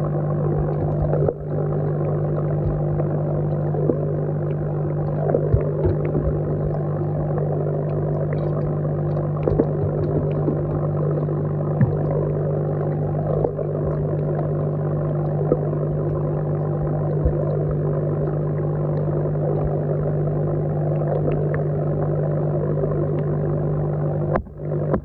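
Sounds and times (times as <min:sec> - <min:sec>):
underwater air line bubbling: 0:00.0 - 0:25.0.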